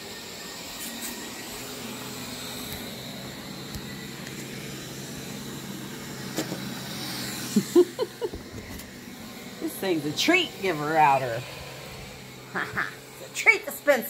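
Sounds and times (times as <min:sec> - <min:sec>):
robot vacuum humming on carpet: 0:00.0 - 0:14.0.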